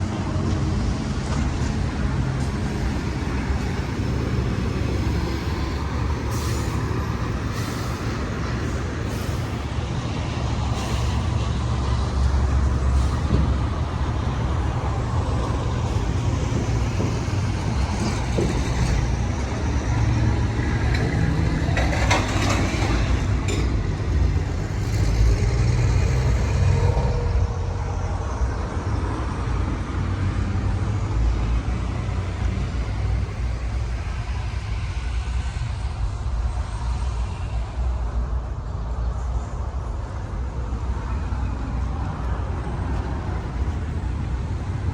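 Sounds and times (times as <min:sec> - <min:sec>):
heavy vehicle engine rumbling: 0:00.0 - 0:44.9.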